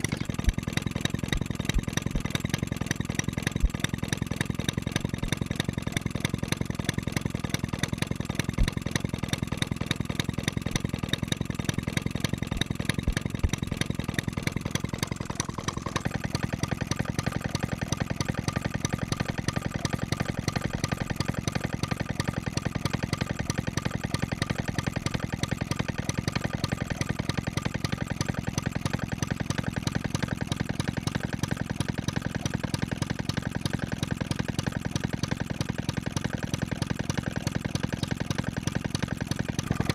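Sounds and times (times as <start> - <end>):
single-cylinder engine running: 0.0 - 39.9.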